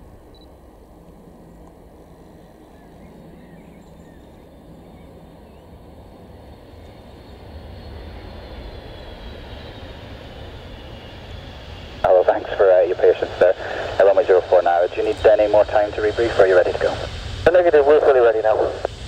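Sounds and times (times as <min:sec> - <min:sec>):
high engine whine: 0:00.0 - 0:19.0
jet engines rumbling: 0:00.0 - 0:19.0.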